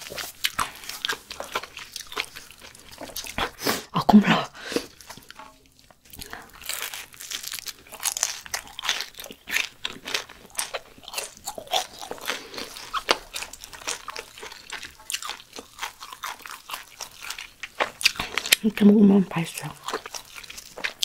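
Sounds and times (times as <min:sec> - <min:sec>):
person chewing crunchy food: 0:00.0 - 0:19.0, 0:19.6 - 0:21.0.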